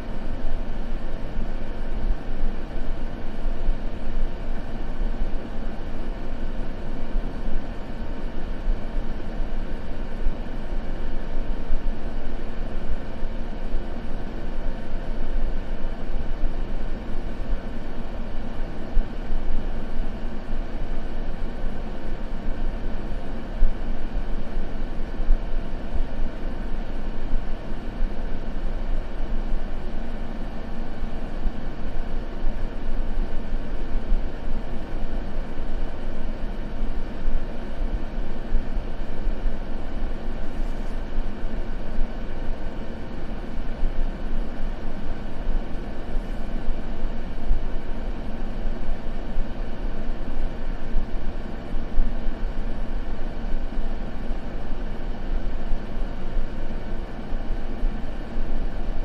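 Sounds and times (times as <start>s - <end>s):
white noise: 0.0s - 59.0s.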